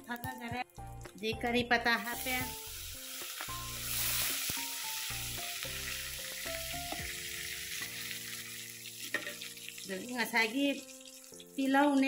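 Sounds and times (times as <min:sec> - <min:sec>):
soft background music: 0:00.0 - 0:12.0
seeds sizzling in hot oil: 0:01.9 - 0:12.0.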